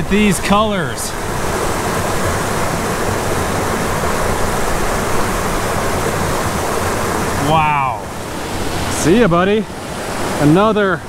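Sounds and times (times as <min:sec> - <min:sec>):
creek rushing over stones: 0:00.0 - 0:11.0.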